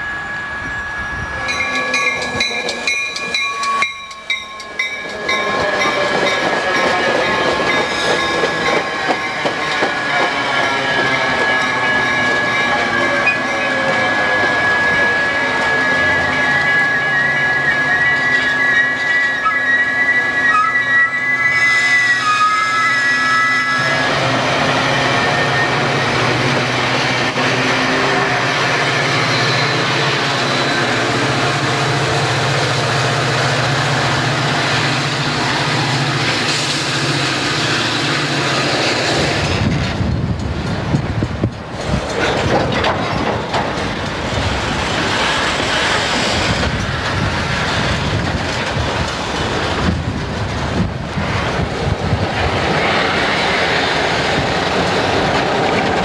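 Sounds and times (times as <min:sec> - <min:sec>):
commuter train rumbling: 0:00.0 - 0:56.0
diesel freight locomotives rumbling: 0:00.0 - 0:56.0.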